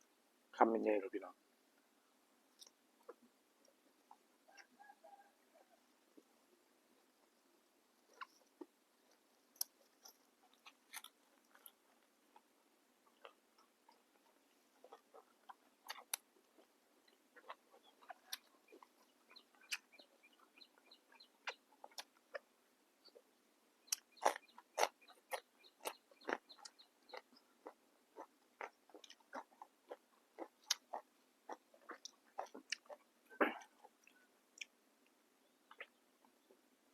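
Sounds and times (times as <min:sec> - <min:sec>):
crunchy chewing: 0:02.5 - 0:34.8, 0:35.6 - 0:36.6.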